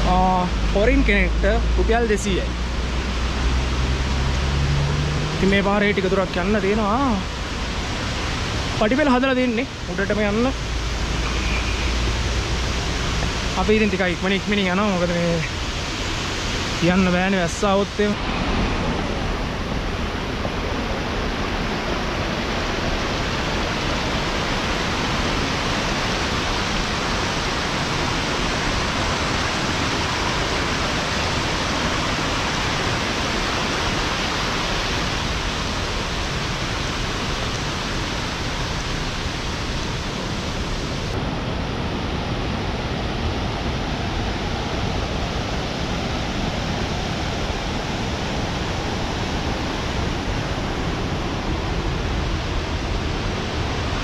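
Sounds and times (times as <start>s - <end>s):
stream cascading over rocks: 0.0s - 54.0s.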